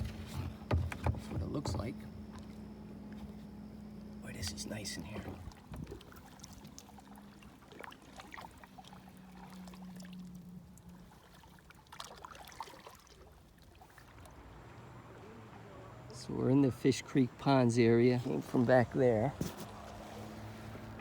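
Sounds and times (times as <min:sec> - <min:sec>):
water splashing around kayak: 0:00.0 - 0:21.0.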